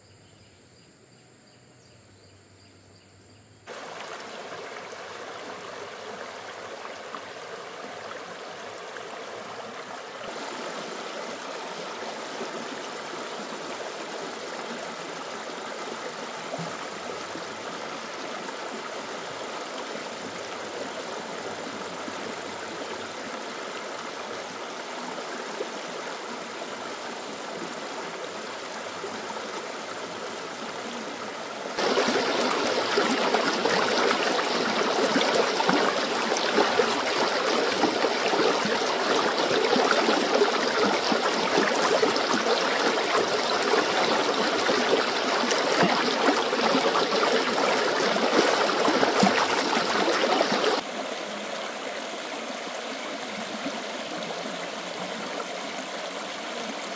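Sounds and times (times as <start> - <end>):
stream water running: 3.7 - 56.9.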